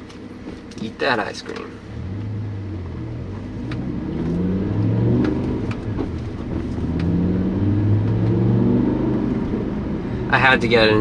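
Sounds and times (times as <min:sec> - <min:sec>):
car engine accelerating: 0:01.4 - 0:11.0.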